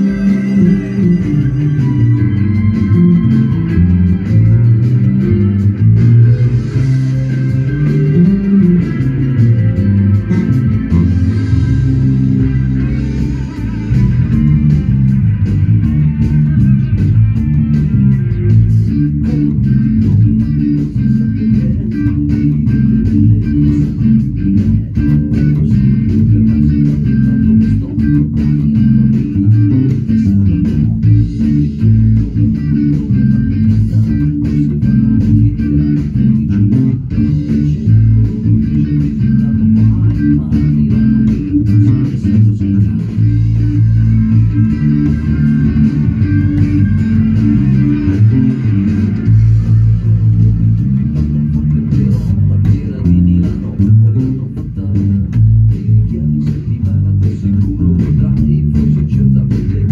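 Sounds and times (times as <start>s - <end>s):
electric bass guitar playing: 0.0s - 59.9s.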